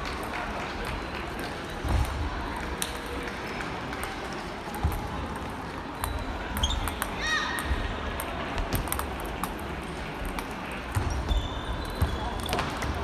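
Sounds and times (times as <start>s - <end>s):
background murmur: 0.0s - 13.0s
table tennis balls clicking: 0.1s - 13.0s.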